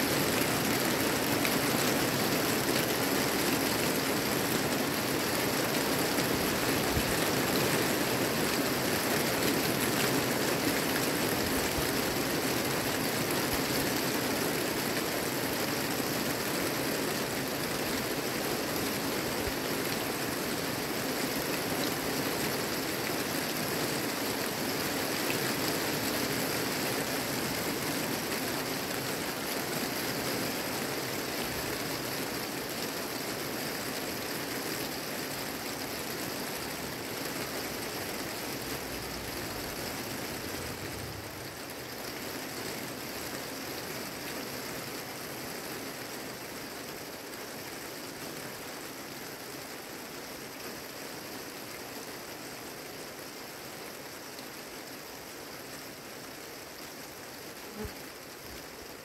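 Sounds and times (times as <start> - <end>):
rain falling on trees: 0.0 - 59.0.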